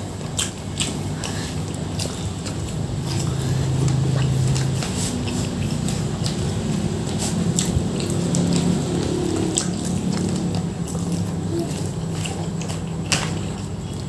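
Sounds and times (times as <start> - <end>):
lip and tongue smacks: 0.0 - 14.0
low hum: 0.0 - 14.0
wet chewing: 0.0 - 14.0.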